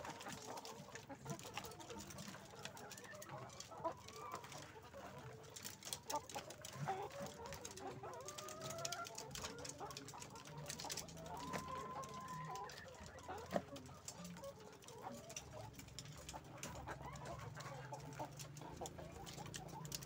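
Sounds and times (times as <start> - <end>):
cage clicks and rattles: 0.0 - 20.0
hens clucking: 0.0 - 20.0.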